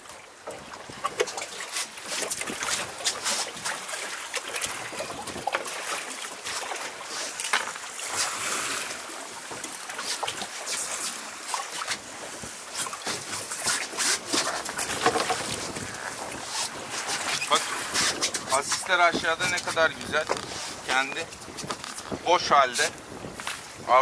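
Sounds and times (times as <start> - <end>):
water lapping against boat hull: 0.0 - 24.0
clicks and rustles of fishing line: 0.5 - 8.4, 9.5 - 23.7.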